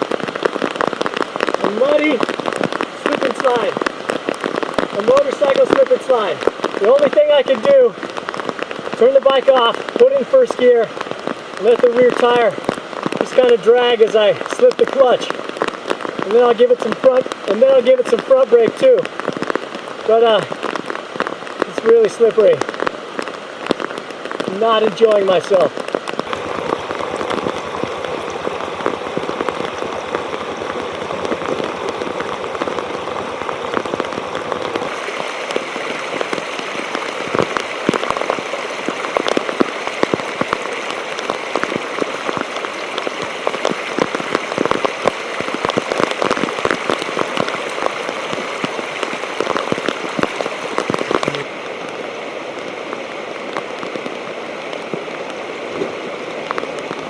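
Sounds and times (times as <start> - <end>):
heavy rain falling: 0.0 - 57.0
raindrops ticking near microphone: 0.0 - 57.0.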